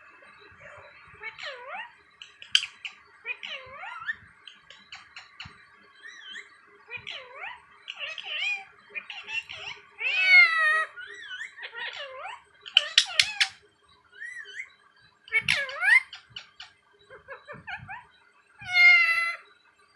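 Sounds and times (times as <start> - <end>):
parrot calls: 0.6 - 13.6, 15.3 - 19.4.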